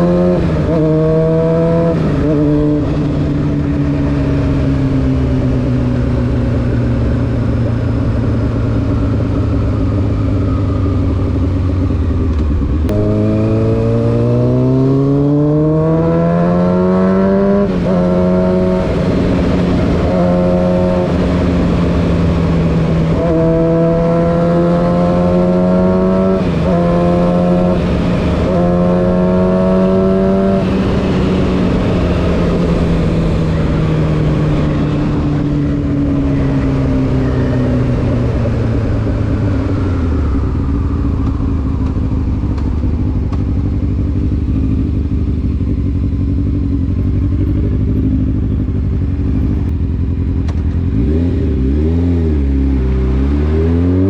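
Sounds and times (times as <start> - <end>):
motorcycle engine while riding: 0.0 - 54.0.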